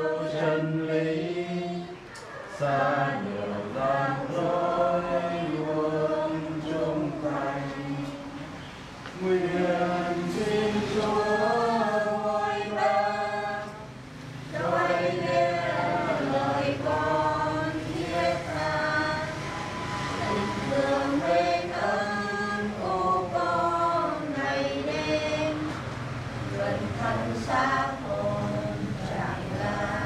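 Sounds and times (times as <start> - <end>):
group singing a slow hymn: 0.0 - 30.0.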